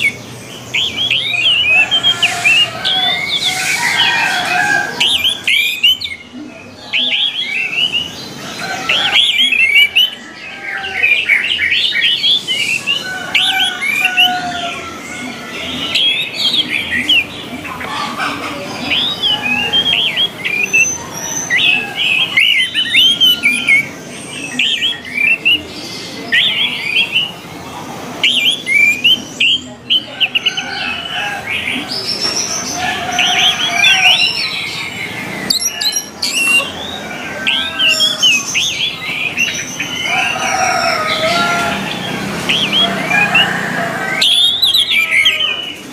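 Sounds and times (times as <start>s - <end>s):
thrush singing: 0.0s - 45.9s.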